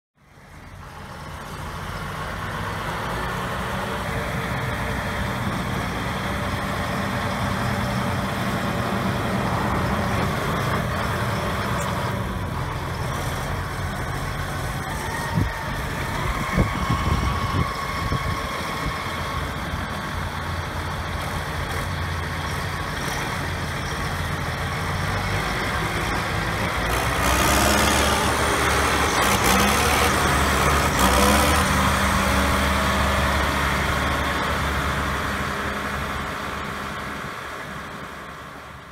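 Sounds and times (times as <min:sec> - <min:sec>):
tractor diesel engine running: 0:00.2 - 0:38.9.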